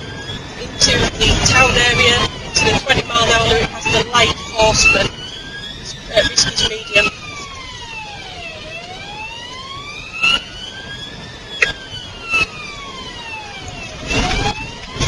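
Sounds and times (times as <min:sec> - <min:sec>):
police siren wailing: 0:00.0 - 0:15.0
road and engine noise: 0:00.0 - 0:15.0.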